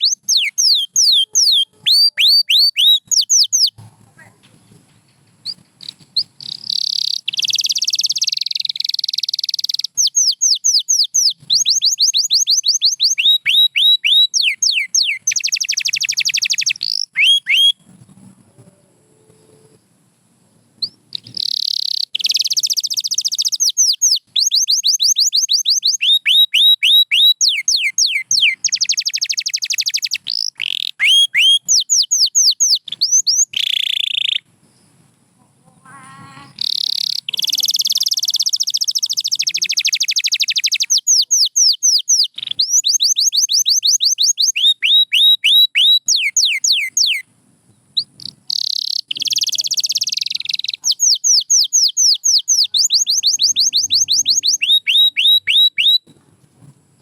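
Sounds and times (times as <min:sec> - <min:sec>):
canary singing trills: 0:00.0 - 0:04.8, 0:05.4 - 0:18.0, 0:20.8 - 0:34.5, 0:35.7 - 0:56.1.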